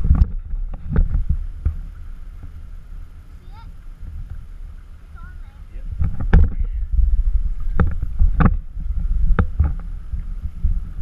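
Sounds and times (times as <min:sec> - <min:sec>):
microphone low rumble: 0:00.0 - 0:11.0
water sloshing and splashing: 0:00.0 - 0:11.0.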